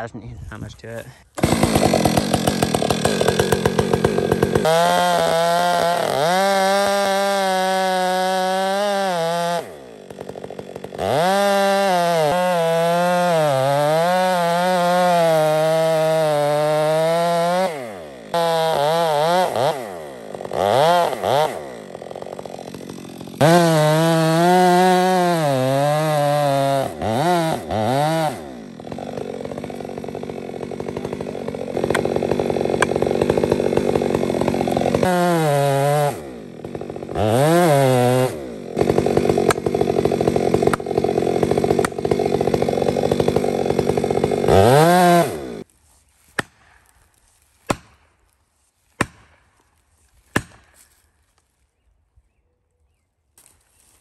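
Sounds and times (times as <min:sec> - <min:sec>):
chainsaw cutting and revving: 0:00.8 - 0:45.7, 0:50.3 - 0:51.0.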